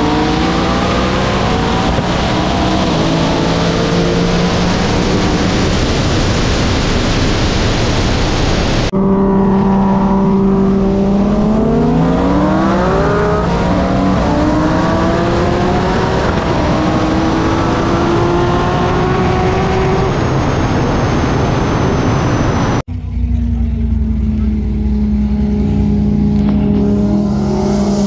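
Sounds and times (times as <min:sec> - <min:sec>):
heavy wind noise: 0:00.0 - 0:22.9
car engine at full throttle: 0:00.0 - 0:28.0.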